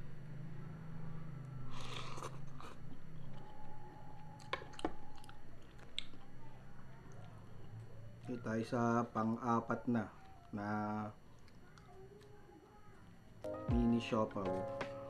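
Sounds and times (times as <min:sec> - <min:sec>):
person chewing noodles: 0:01.4 - 0:13.5.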